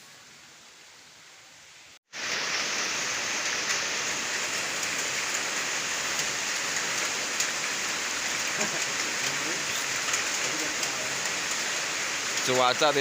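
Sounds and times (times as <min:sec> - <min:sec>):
heavy rain falling: 0:02.0 - 0:13.0.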